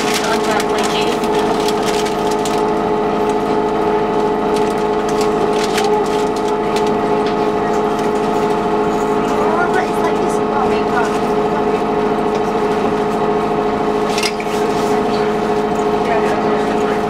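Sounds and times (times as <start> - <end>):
bus motor whine: 0.0 - 17.0.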